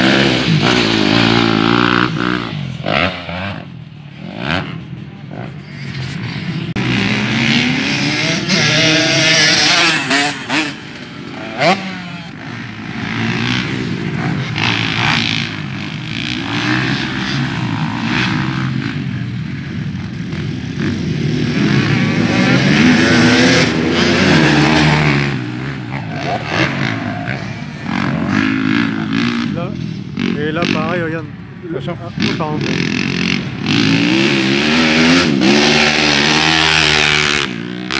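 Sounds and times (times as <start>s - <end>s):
motocross engines revving: 0.0s - 37.9s.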